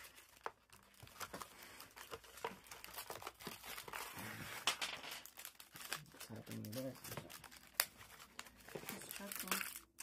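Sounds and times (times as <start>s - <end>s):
cardboard and plastic tearing: 0.0s - 10.0s.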